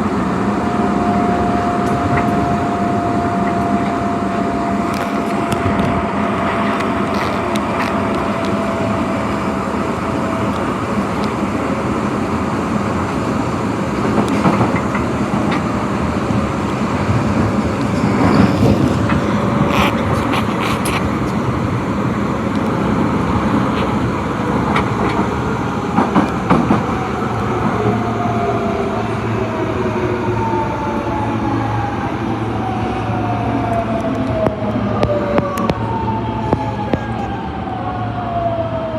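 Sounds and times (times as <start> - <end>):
subway car rail rumble: 0.0 - 38.9.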